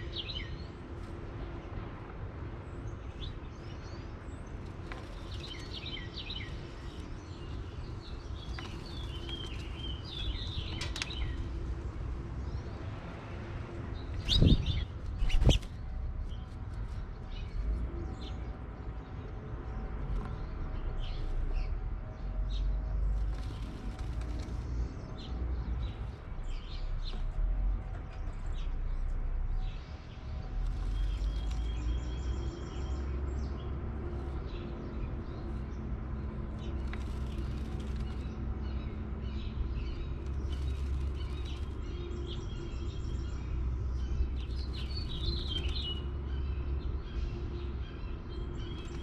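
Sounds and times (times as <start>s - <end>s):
small birds chirping: 0.0s - 1.8s, 2.6s - 13.0s, 13.9s - 49.0s
steady low rumble: 0.0s - 49.0s.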